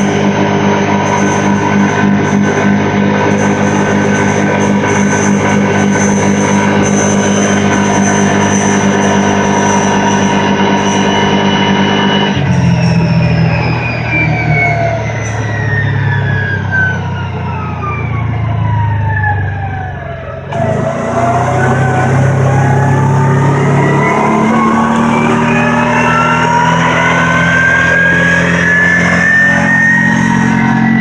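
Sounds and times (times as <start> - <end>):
off-road vehicle engine whine: 0.0 - 31.0.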